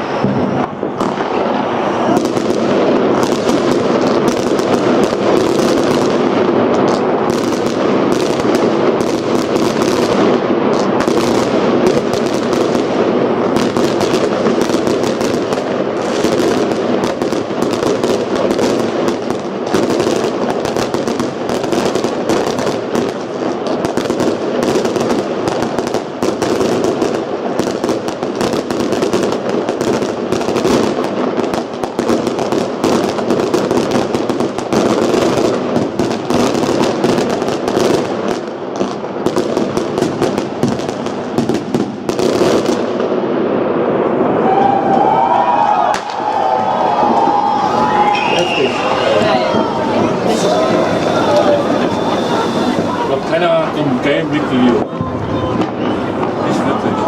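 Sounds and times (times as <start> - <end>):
fireworks and firecrackers banging: 0.0 - 57.0.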